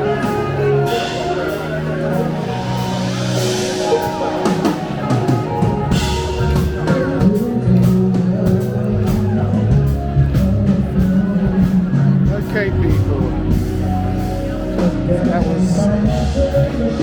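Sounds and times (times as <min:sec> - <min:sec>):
drum kit: 0:00.0 - 0:17.0
electric bass: 0:00.0 - 0:17.0
electric guitar: 0:00.0 - 0:17.0.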